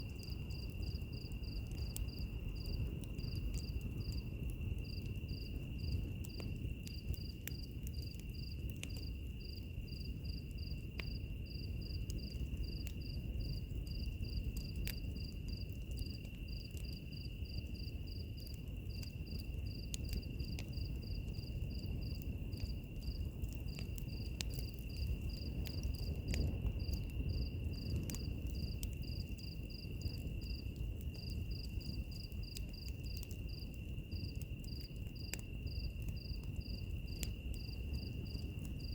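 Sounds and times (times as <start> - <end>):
cricket chirping: 0.0 - 38.9
wood fire crackling: 0.0 - 38.9.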